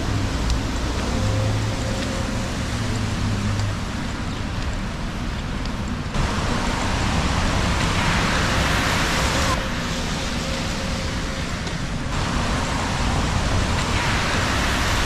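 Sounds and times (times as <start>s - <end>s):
passing cars rumble: 0.0s - 15.0s
rain hiss: 0.0s - 15.0s
tyres on wet road: 0.0s - 15.0s.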